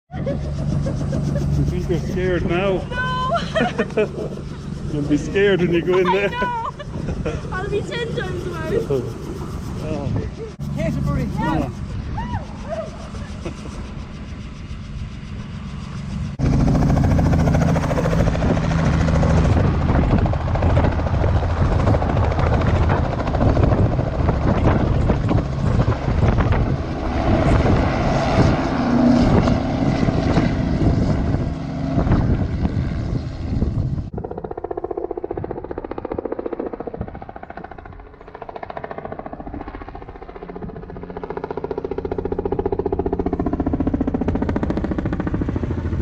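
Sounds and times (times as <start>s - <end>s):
helicopter rotor chopping: 0.1s - 46.0s.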